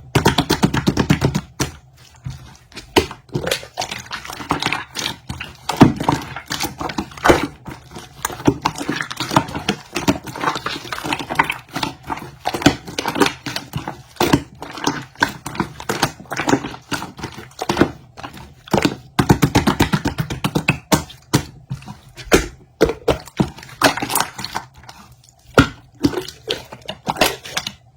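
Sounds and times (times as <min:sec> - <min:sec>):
slime squishing with wet pops: 0:00.0 - 0:27.9.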